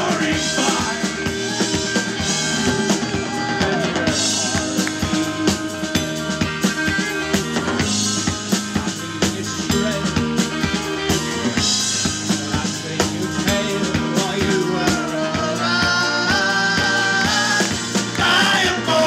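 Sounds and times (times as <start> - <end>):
drum kit steady beat: 0.0 - 19.0
live rock band playing: 0.0 - 19.0.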